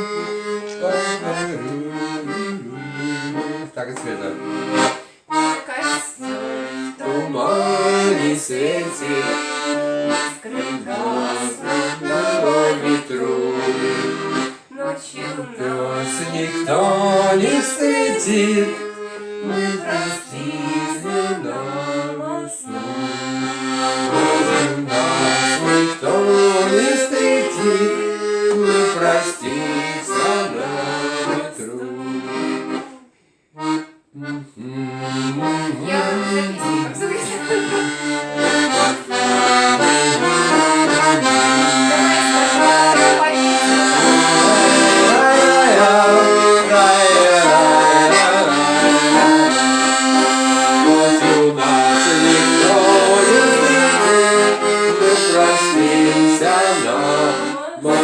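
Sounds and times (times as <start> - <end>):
accordion melody over chords: 0.0 - 58.0.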